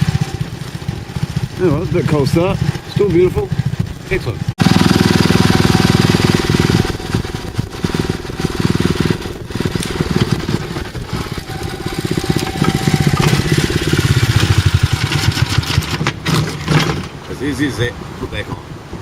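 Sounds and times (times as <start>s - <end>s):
lawn mower engine running: 0.0s - 17.4s.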